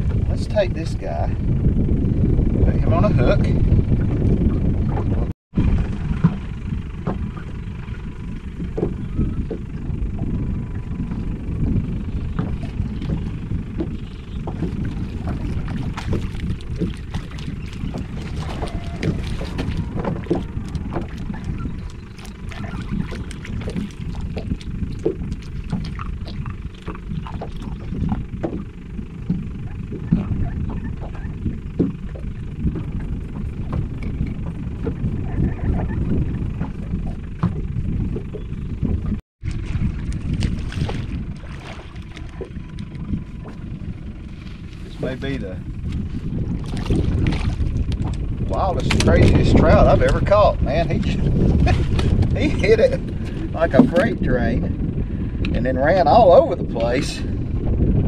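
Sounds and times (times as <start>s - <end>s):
waves lapping against boat hull: 0.0s - 58.0s
wind noise on microphone: 0.0s - 58.0s
water clicking against boat: 3.0s - 58.0s.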